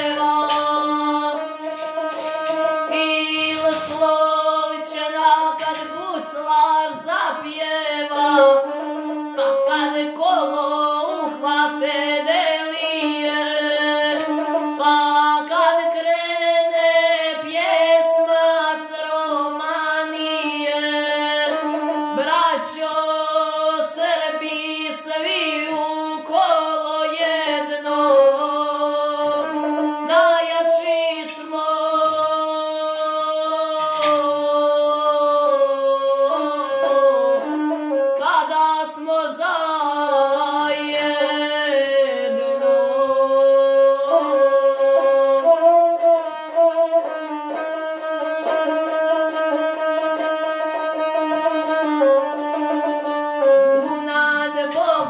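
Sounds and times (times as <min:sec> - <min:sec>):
bowed one-string fiddle: 0:00.0 - 0:55.0
boy singing: 0:00.0 - 0:55.0.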